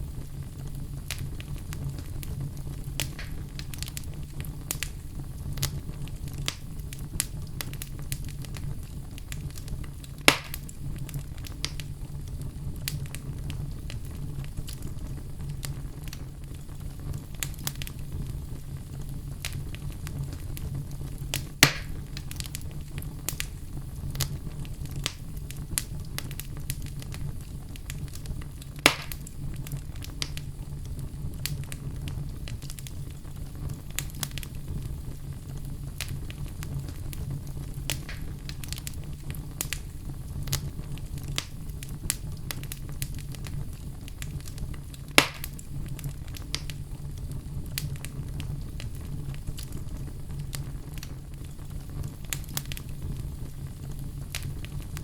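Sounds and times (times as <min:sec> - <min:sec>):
loud fire pops: 0:00.0 - 0:55.0
wood fire crackling: 0:00.0 - 0:55.0.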